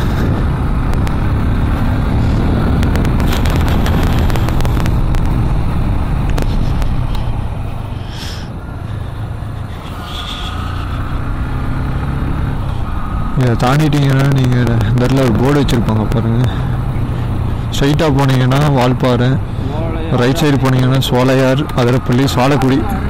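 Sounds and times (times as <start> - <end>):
road and wind noise: 0.0 - 23.0
vehicle engine running: 0.0 - 23.0.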